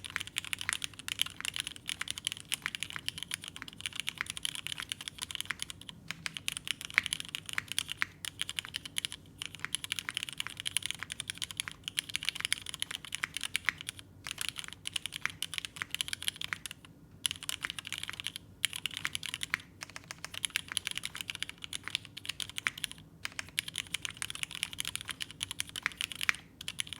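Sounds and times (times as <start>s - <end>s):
fast mechanical keyboard typing: 0.0s - 26.9s.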